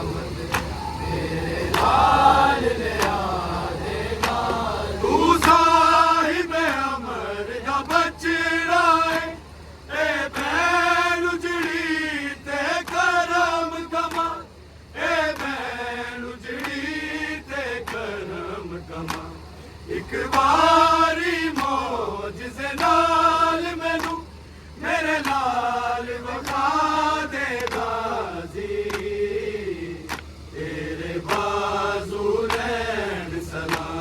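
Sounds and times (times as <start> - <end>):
voices chanting a lament: 0.0 - 34.0.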